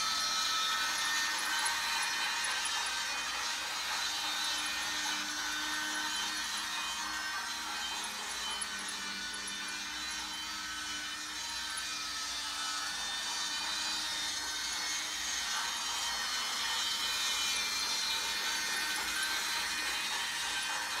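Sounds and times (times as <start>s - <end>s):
toy train motor whirring: 0.0s - 21.0s.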